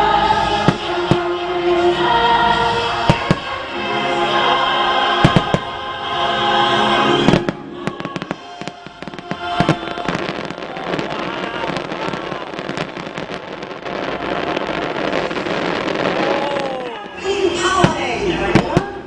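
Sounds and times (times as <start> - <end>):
choral music: 0.0 - 18.6
fireworks crackling: 0.0 - 19.0
fireworks bangs: 0.3 - 1.9, 2.5 - 19.0.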